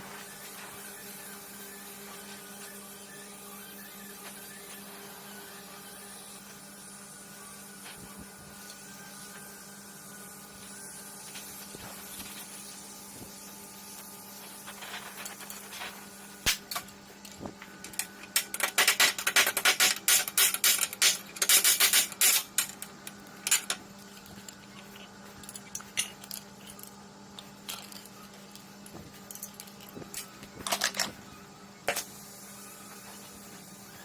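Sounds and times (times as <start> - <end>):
steady low hum: 5.1 - 34.0.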